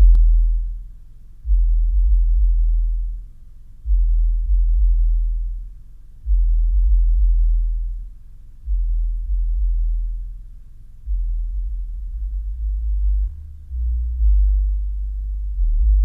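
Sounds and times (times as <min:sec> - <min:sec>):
subwoofer playing deep bass notes: 0:00.0 - 0:16.0.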